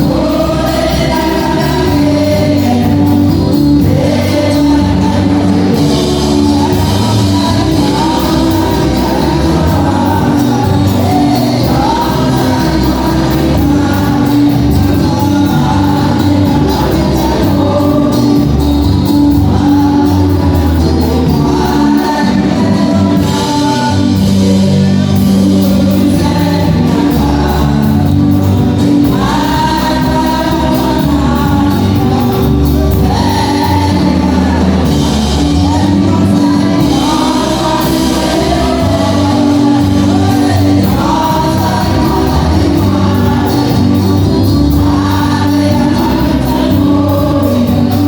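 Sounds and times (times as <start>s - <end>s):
choir singing gospel music: 0.0s - 48.0s.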